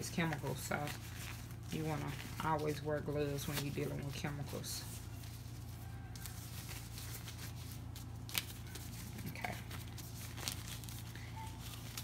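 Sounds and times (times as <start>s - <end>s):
plastic gloves rustling: 0.0s - 12.0s
steady low hum: 0.0s - 12.0s.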